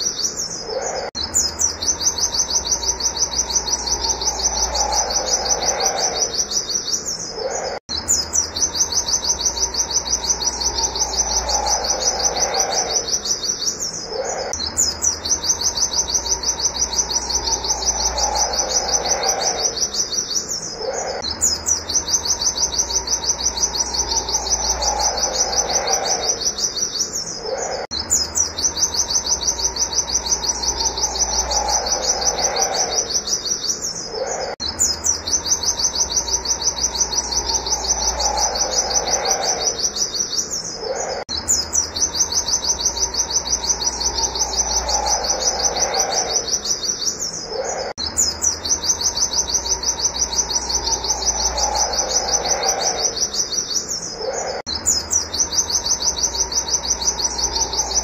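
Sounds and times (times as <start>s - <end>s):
bird singing high chirps: 0.0s - 58.0s.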